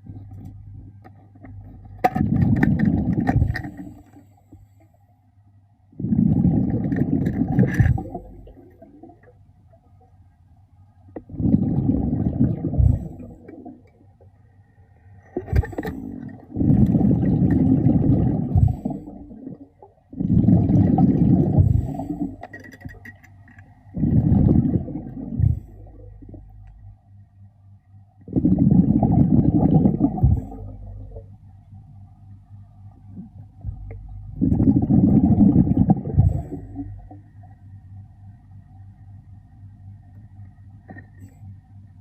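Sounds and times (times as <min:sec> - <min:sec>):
exhaled air bubbling underwater: 0:00.0 - 0:04.6, 0:05.9 - 0:10.2, 0:11.1 - 0:27.1, 0:28.2 - 0:32.0, 0:32.7 - 0:38.0.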